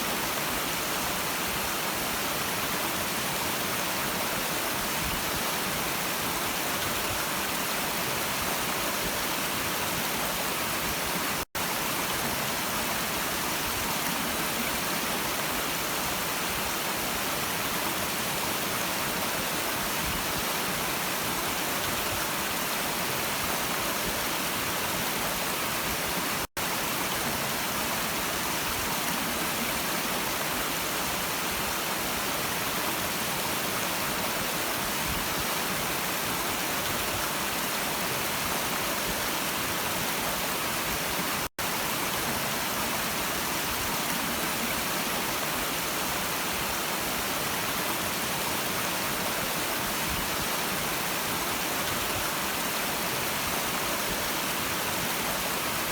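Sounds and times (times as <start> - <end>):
stream water running: 0.0 - 55.9.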